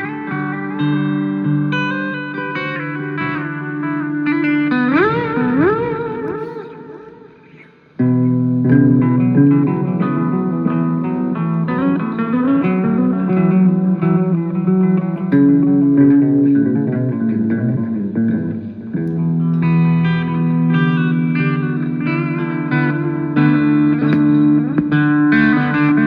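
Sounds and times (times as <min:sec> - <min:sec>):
guitar melody: 0:00.0 - 0:26.0.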